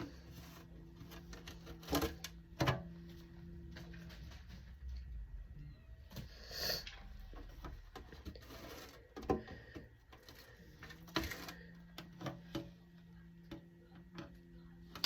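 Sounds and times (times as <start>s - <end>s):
plastic fridge parts clicking: 0.0s - 4.7s, 6.9s - 15.0s
low steady hum: 0.0s - 15.0s.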